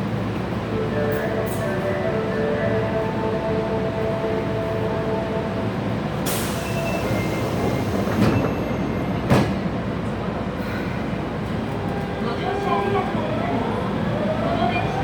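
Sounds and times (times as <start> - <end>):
train running gear rumble: 0.0 - 13.2.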